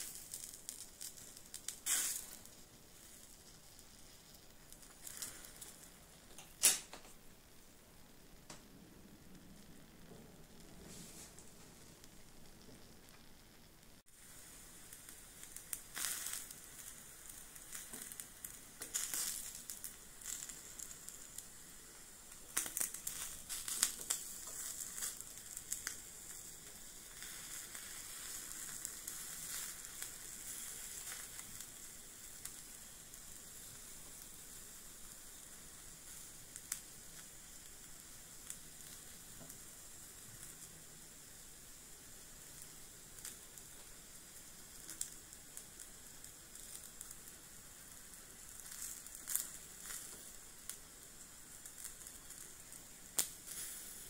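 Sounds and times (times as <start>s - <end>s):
steak sizzling on grill: 0.0s - 6.8s, 9.3s - 54.0s.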